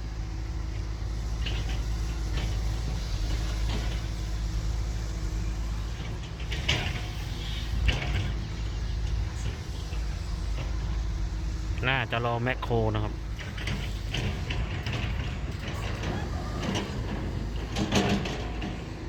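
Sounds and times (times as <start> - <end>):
heavy diesel truck engine running: 0.0 - 19.0.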